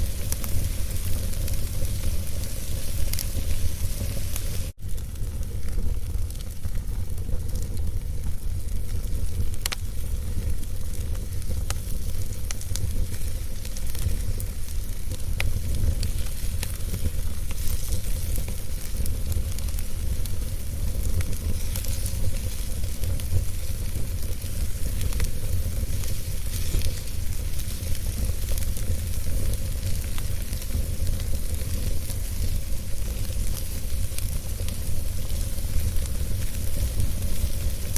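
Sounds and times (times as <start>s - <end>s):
sharp pops of fire: 0.0s - 37.9s
wood fire crackling: 0.0s - 37.9s.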